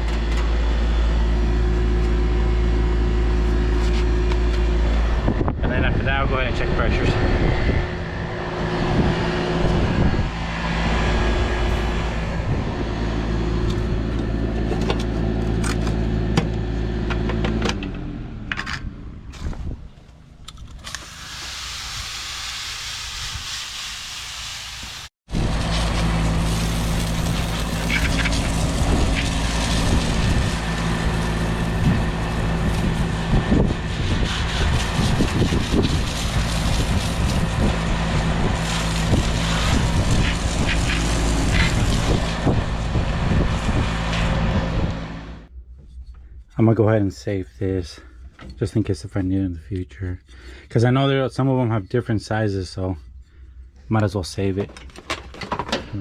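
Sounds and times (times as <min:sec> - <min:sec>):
condenser unit motor hum: 0:00.0 - 0:21.4, 0:25.3 - 0:51.2.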